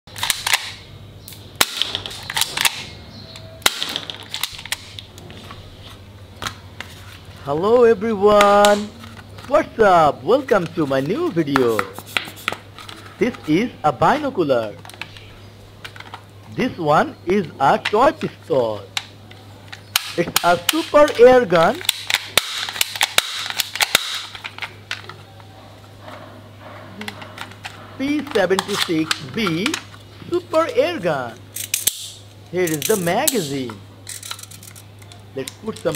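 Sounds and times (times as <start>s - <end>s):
toy handling noise: 0.1s - 7.5s, 8.2s - 16.8s, 17.7s - 26.3s, 26.9s - 35.9s.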